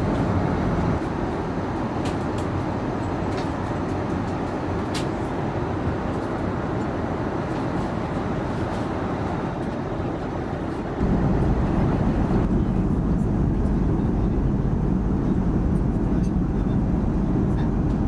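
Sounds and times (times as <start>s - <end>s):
airplane cabin engine roar: 0.0s - 18.0s.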